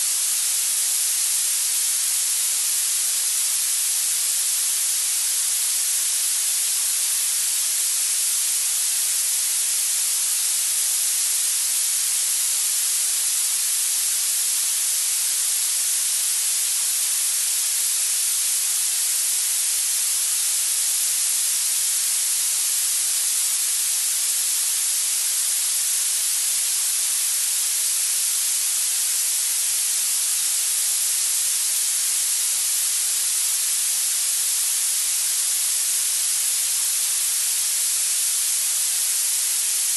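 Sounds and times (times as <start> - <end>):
steady treble-heavy hiss: 0.0 - 39.9.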